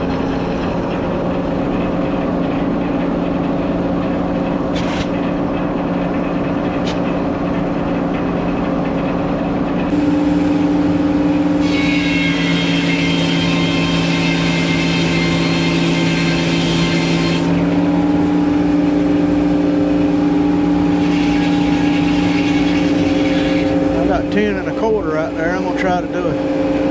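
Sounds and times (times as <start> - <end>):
saw blade whine cutting log: 0.0 - 26.9
sawmill engine running: 0.0 - 26.9.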